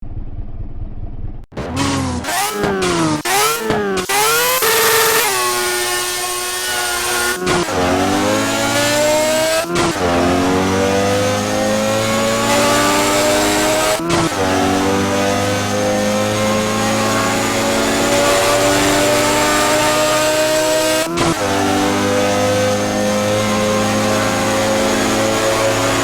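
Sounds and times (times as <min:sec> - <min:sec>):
car engine accelerating: 0:01.2 - 0:26.0.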